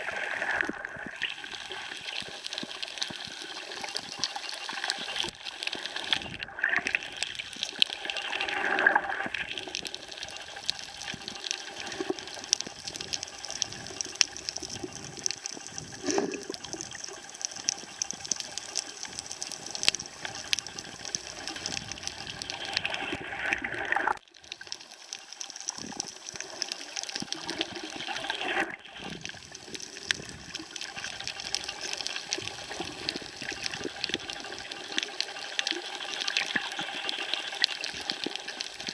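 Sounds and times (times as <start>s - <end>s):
fine crackling underwater: 0.0s - 38.9s.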